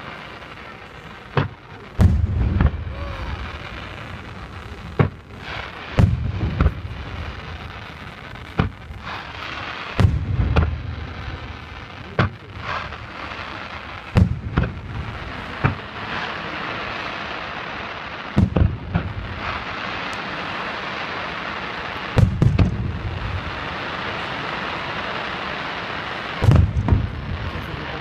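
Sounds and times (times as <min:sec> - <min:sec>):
fireworks booming: 0:00.0 - 0:28.0
steady hiss: 0:00.0 - 0:28.0.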